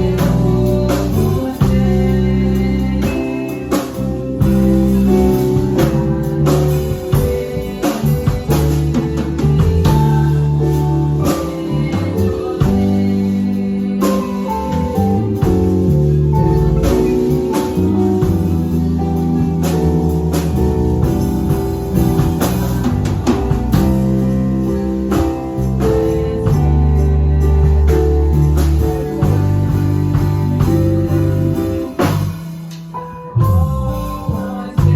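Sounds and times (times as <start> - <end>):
guitar-led band music: 0.0 - 34.9.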